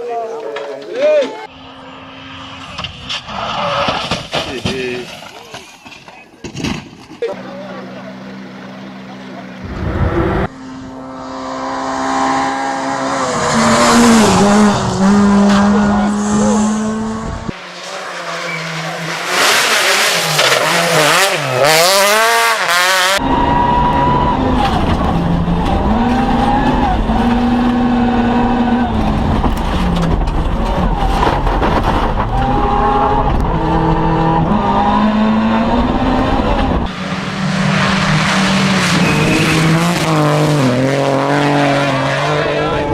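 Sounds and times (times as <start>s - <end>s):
rally car engines revving: 1.4s - 5.6s, 7.0s - 42.9s.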